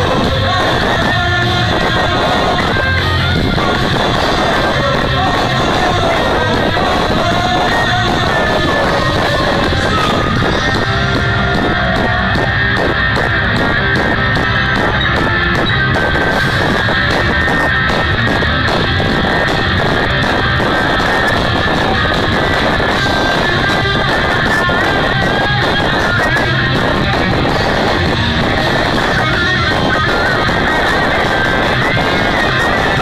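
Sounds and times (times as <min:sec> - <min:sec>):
drums steady beat: 0:00.0 - 0:33.0
electric guitar rock music: 0:00.0 - 0:33.0.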